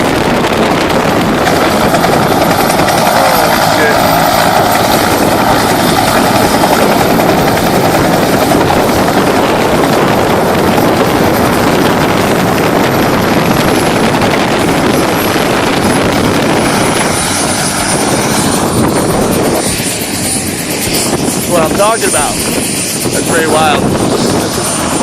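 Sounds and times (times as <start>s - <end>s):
aircraft engine and airflow noise: 0.0s - 25.0s.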